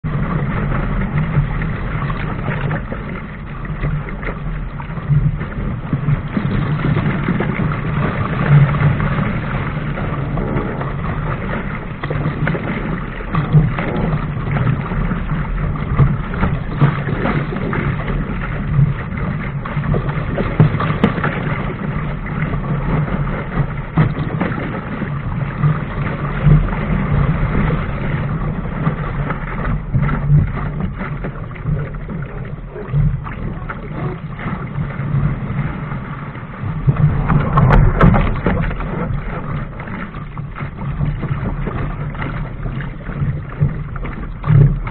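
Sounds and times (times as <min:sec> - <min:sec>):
water rushing along a hull: 0:00.0 - 0:44.9
wind buffeting microphone: 0:00.0 - 0:44.9.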